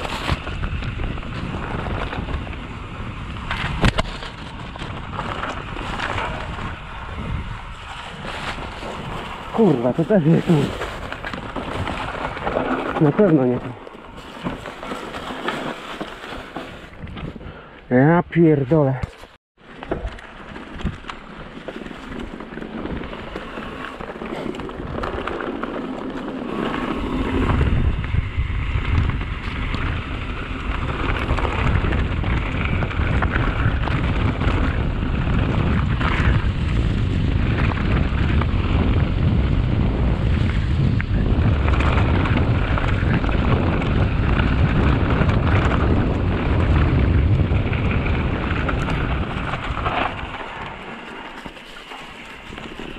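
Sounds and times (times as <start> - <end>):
wind buffeting microphone: 0.0 - 15.2, 20.1 - 52.9
bike tyres crackling on dirt: 0.0 - 18.1, 18.8 - 52.9.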